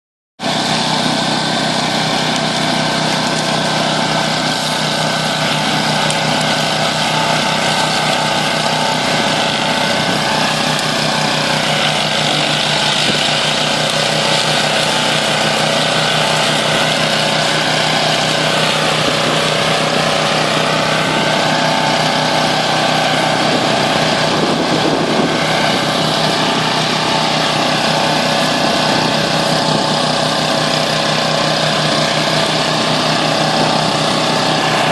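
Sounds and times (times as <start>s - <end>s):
mower engine running: 0.4s - 34.9s.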